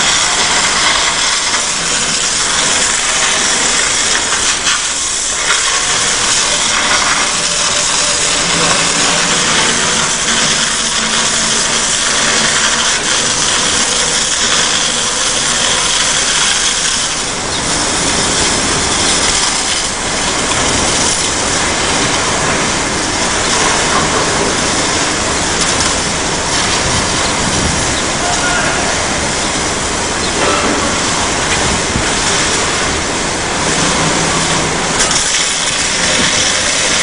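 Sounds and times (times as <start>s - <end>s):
engine running: 0.0s - 37.0s
high-pressure water jet hissing: 0.0s - 37.0s.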